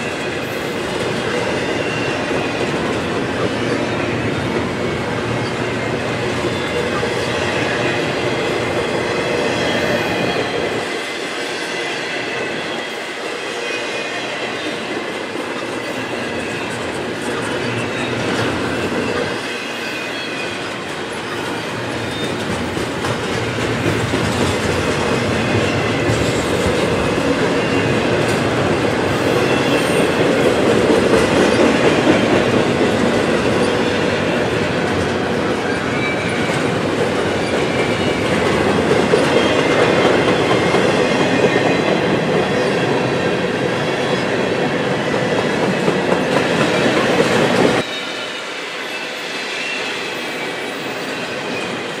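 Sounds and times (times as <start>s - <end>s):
steel train wheels on rail: 0.0s - 52.0s.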